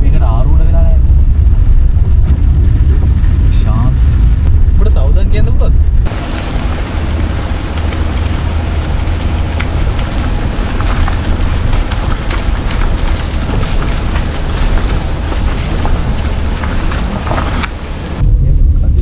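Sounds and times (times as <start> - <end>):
car rumble on wet road: 0.0 - 19.0
wind buffeting microphone: 0.0 - 19.0.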